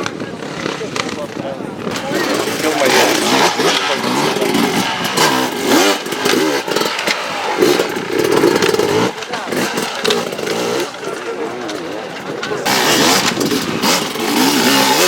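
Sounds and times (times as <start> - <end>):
motorcycle engine revving: 0.0 - 15.0
spectators talking: 0.0 - 15.0.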